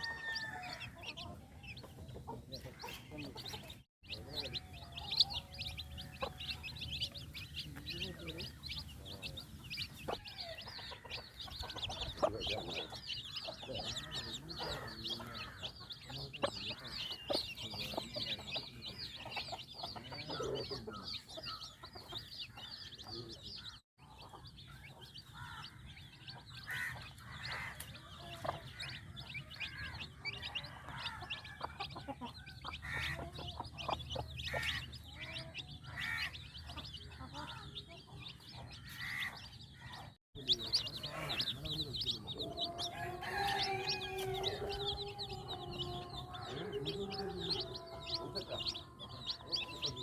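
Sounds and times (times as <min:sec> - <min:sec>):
chicks peeping: 0:00.0 - 0:50.0
hen clucking: 0:00.0 - 0:50.0.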